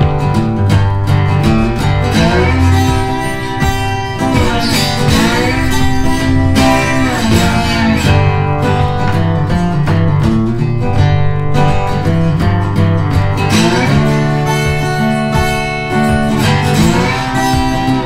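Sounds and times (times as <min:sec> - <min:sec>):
country music with acoustic guitar: 0:00.0 - 0:18.0.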